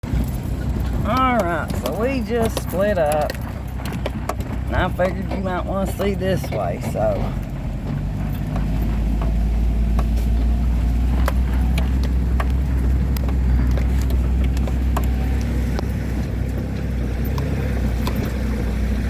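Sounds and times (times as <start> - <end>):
vehicle engine and tyres rumbling: 0.0 - 19.0.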